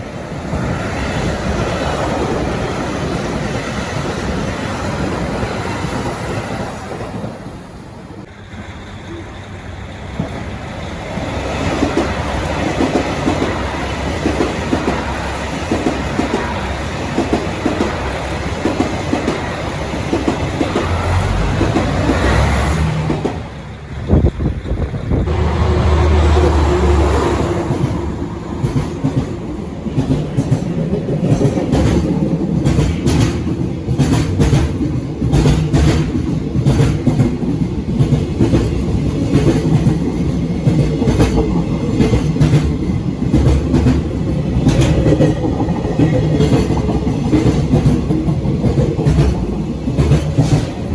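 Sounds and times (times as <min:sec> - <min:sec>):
train rolling rumble: 0:00.0 - 0:50.9
train wheels clacking on rail joints: 0:08.2 - 0:50.9.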